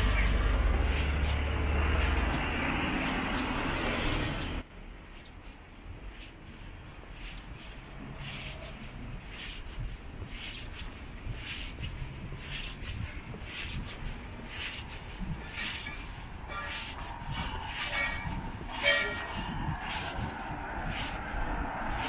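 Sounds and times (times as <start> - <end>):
footsteps on pavement: 0.0 - 22.0.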